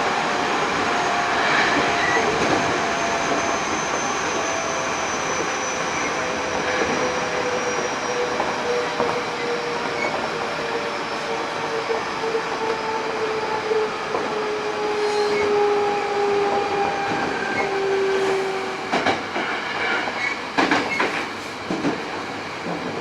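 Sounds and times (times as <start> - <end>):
train wheel and rail noise: 0.0 - 23.0.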